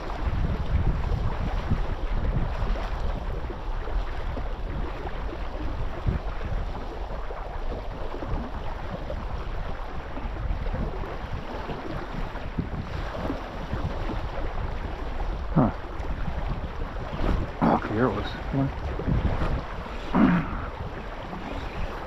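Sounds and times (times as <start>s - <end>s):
moving water: 0.0s - 22.0s
wind buffeting microphone: 0.0s - 22.0s.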